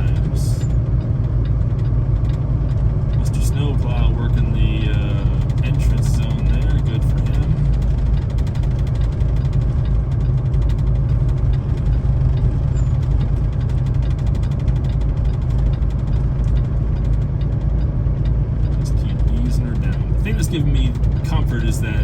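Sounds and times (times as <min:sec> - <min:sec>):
fast even ticking: 0:00.0 - 0:22.0
truck diesel engine rumble: 0:00.0 - 0:22.0.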